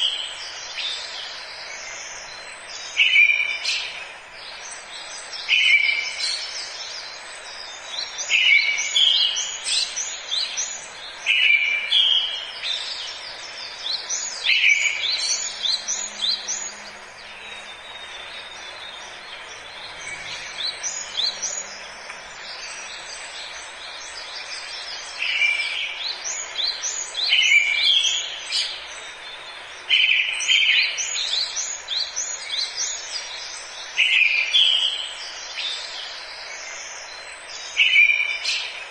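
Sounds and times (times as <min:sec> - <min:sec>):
forest ambience hiss: 0:00.0 - 0:38.9
songbirds singing: 0:00.0 - 0:38.9.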